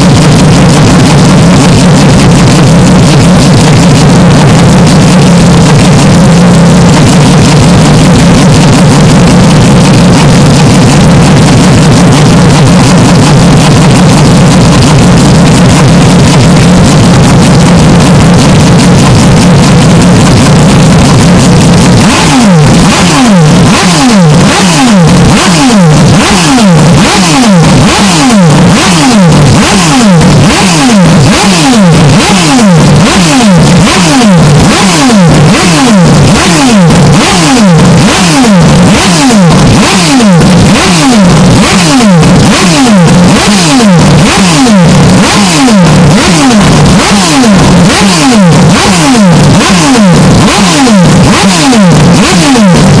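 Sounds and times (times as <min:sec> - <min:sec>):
distorted racing car engine: 0:00.0 - 0:53.0.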